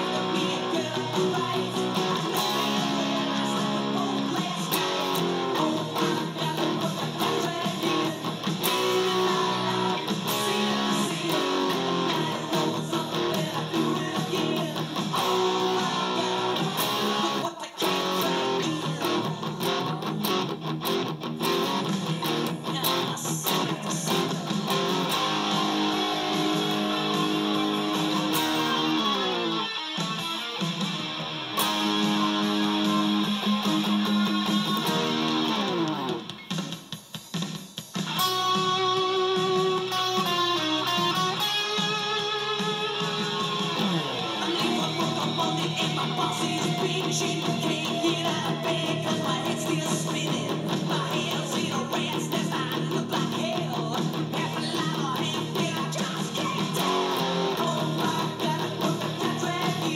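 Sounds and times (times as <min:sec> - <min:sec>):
electric guitar strumming chords: 0:00.0 - 0:36.8, 0:37.9 - 0:59.9.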